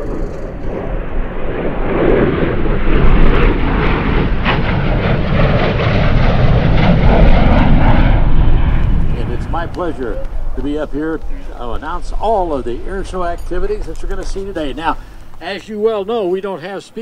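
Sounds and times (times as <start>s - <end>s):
airplane engine running: 0.0s - 17.0s.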